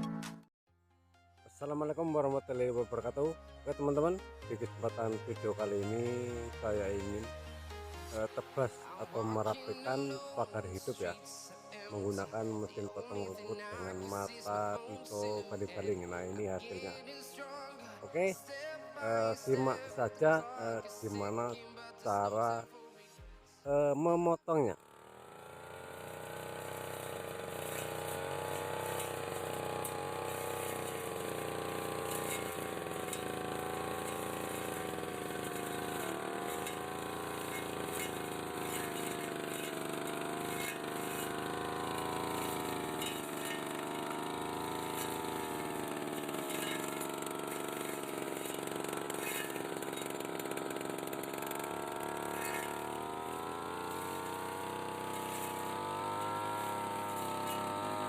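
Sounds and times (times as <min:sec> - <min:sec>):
brush cutter engine running: 0:01.8 - 0:11.2, 0:11.9 - 0:16.9, 0:19.0 - 0:22.6, 0:24.7 - 0:58.0.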